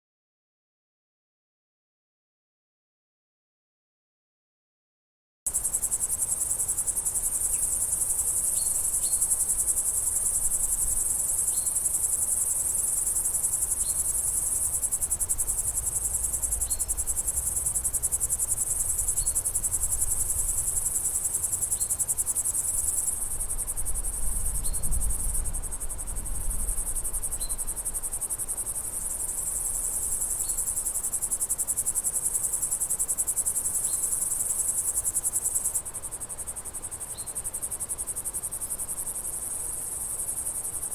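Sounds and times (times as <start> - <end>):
crickets trilling: 5.5 - 40.9.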